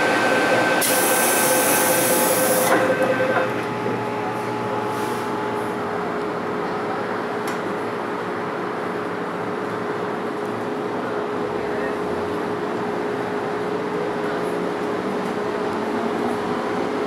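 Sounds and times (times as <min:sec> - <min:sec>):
train running with whine: 0:00.0 - 0:17.0.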